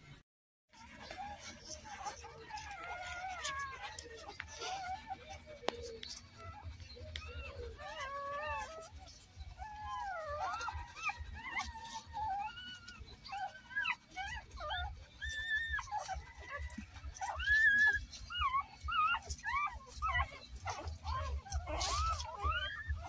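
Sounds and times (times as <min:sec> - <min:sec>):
puppies squeaking and whimpering: 0:00.8 - 0:23.0.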